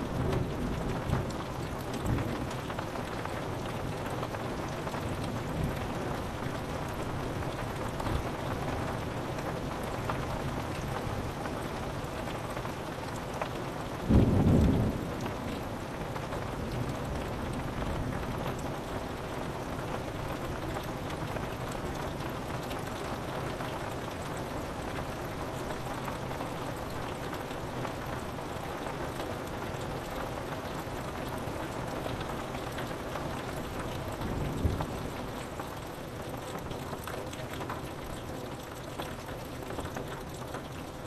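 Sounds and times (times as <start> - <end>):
rain on window glass: 0.0 - 41.0.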